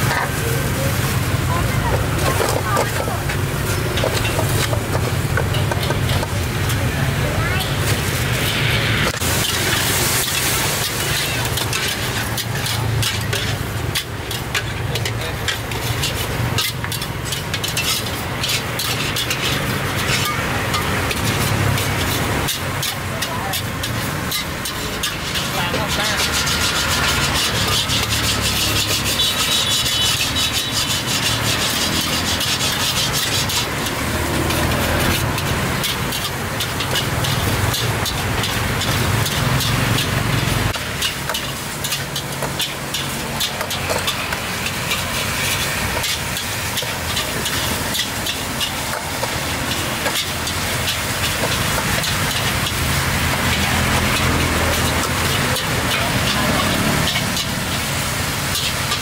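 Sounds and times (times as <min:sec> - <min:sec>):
sauce sizzling: 0:00.0 - 0:02.4, 0:03.1 - 0:59.0
metal ladle scraping a pan: 0:00.0 - 0:59.0.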